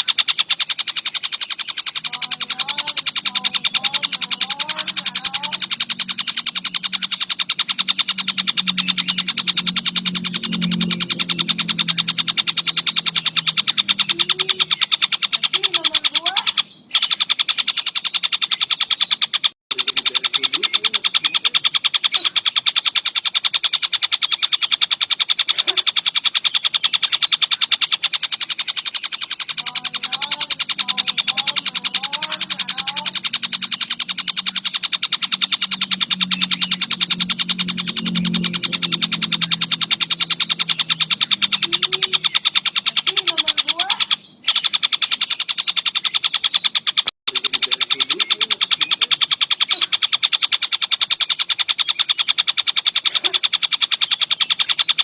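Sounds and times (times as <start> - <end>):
kingfisher rapid chattering call: 0.0 - 55.0.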